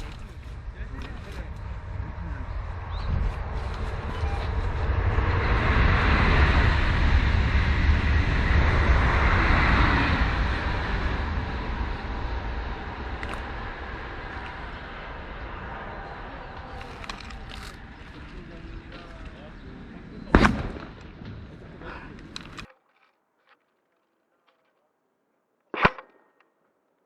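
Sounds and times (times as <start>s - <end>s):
train passing by: 0.0s - 22.2s.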